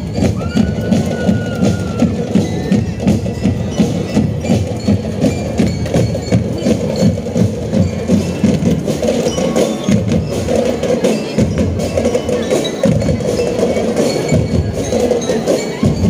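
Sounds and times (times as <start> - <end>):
bell lyres ringing melody: 0.0 - 16.0
drums beating marching rhythm: 0.0 - 16.0.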